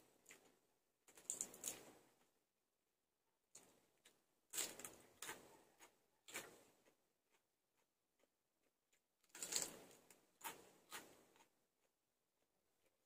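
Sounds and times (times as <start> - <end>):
crunchy chewing: 0.0 - 2.3, 3.6 - 13.0.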